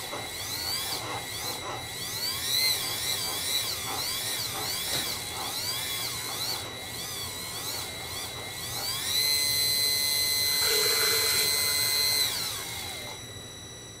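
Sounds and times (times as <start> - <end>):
small electric pump whining: 0.0 - 14.0.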